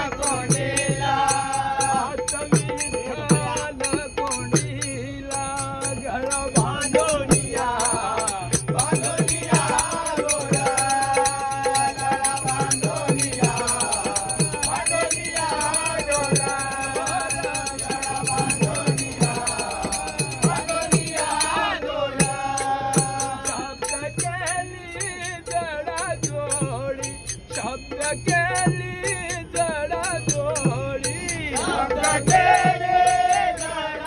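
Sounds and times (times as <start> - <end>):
men singing together: 0.0 - 34.0.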